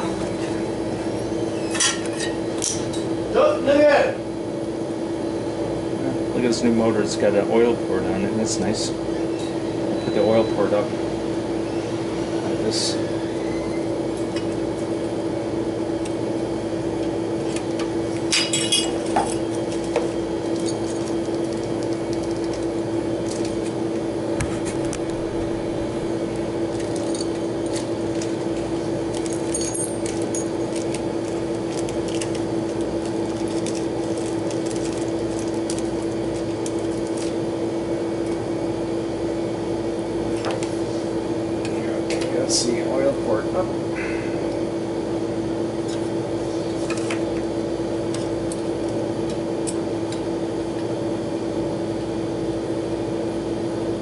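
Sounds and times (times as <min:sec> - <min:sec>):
refrigeration equipment humming: 0:00.0 - 0:54.0.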